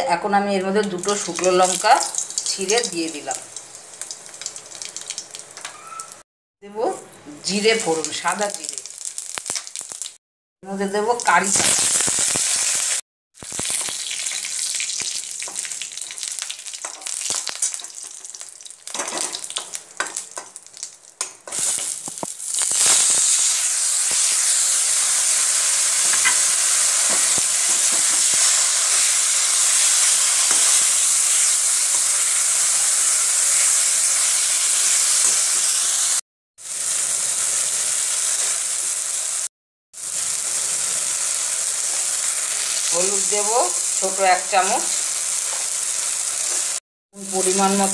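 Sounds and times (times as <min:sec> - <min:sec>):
spices crackling in hot oil: 0:00.6 - 0:06.2, 0:07.4 - 0:10.2, 0:10.8 - 0:47.9
vegetables sizzling in oil: 0:00.6 - 0:06.2, 0:07.4 - 0:10.2, 0:10.8 - 0:47.9.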